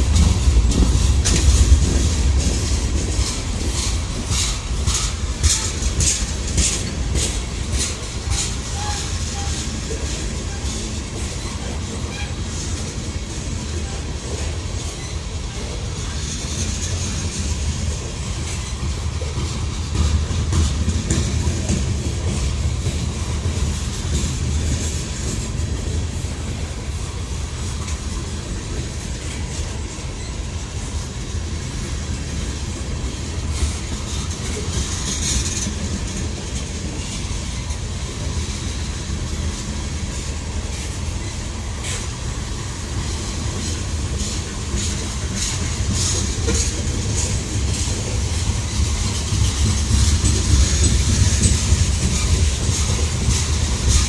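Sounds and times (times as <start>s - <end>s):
freight train rumbling: 0.0s - 54.0s
wheels clacking over rail joints: 0.0s - 54.0s.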